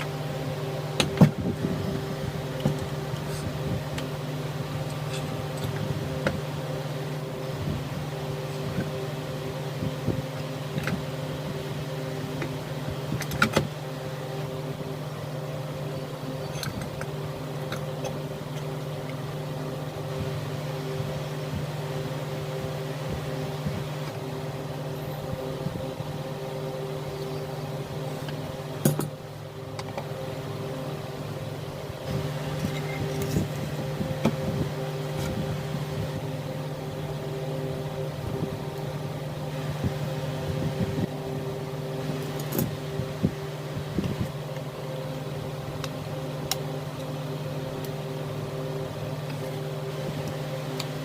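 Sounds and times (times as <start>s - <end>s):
motor humming: 0.0s - 51.0s.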